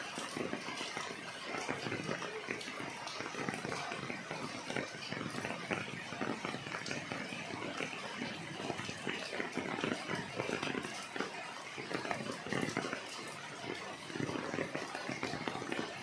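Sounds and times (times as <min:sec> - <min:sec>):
rain pattering on leaves: 0:00.0 - 0:16.0.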